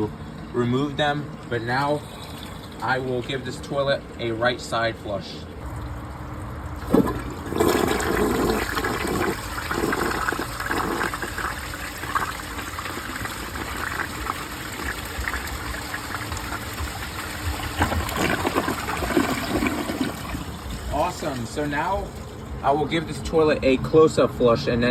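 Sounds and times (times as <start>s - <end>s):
toilet flushing: 0.0s - 24.0s.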